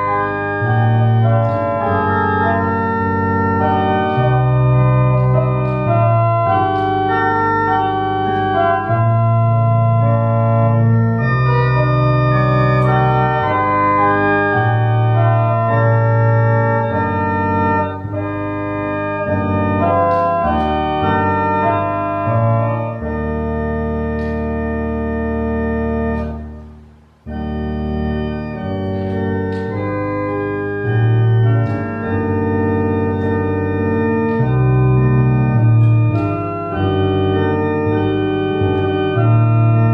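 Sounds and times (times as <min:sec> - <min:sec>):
church organ playing a hymn: 0:00.0 - 0:39.9.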